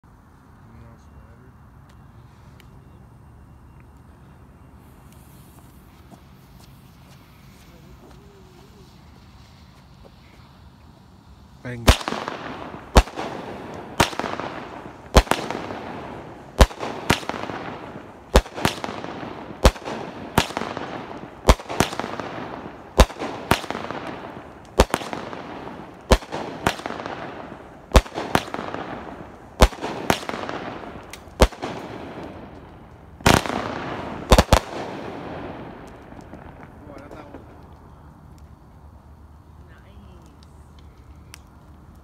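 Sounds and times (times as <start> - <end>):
crackle of bursting stars: 3.7 - 42.0
firework bangs: 4.8 - 41.9.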